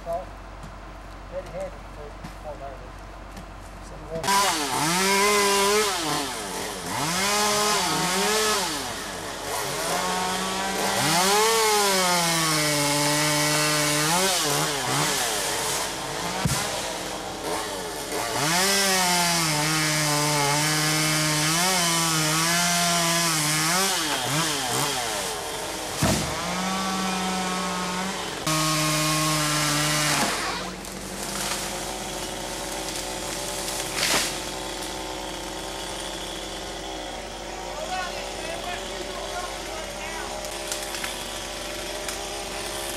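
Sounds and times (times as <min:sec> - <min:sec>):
chainsaw cutting wood: 0:04.2 - 0:42.9.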